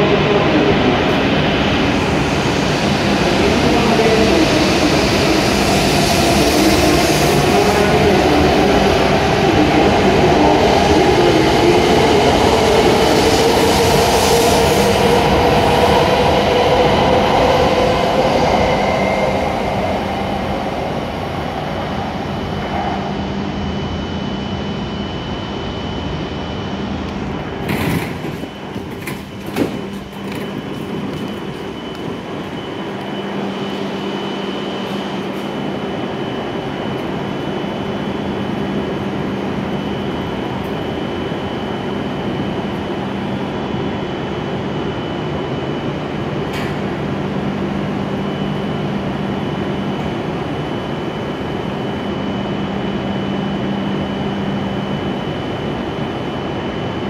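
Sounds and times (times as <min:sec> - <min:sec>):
rumble of passing train cars: 0:00.0 - 0:57.0.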